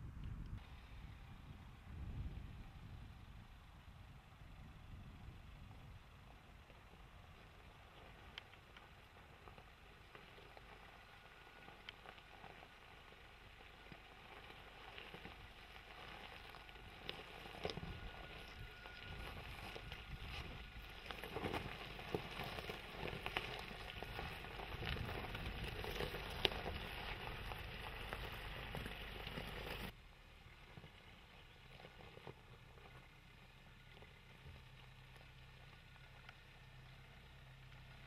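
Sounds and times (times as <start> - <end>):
diesel engine rumble: 0.0 - 38.0
tyres crunching on gravel: 6.2 - 38.0.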